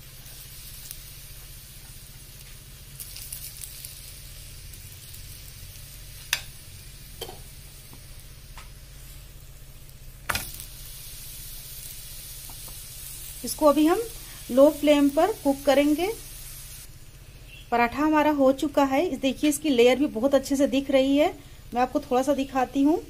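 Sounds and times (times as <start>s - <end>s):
flatbread sizzling on griddle: 0.0s - 18.7s.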